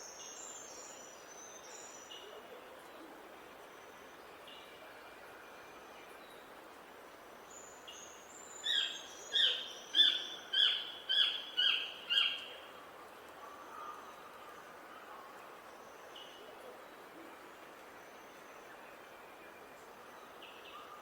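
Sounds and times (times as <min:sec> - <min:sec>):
faint outdoor hiss: 0:00.0 - 0:21.0.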